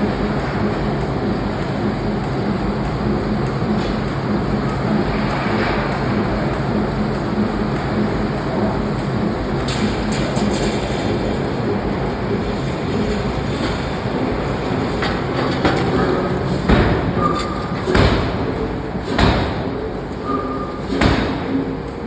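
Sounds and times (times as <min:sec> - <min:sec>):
machinery mechanical din: 0:00.0 - 0:22.0.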